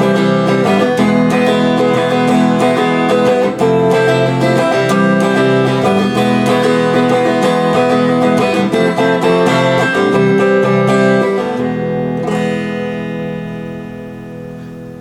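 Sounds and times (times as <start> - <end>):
guitar picked notes and chords: 0.0 - 15.0.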